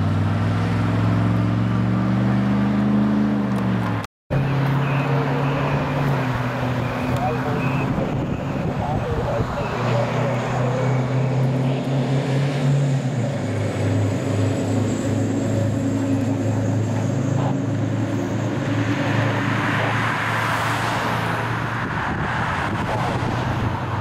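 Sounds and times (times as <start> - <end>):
fire truck engine droning: 0.0 - 20.3
tyre and road noise: 0.0 - 24.0.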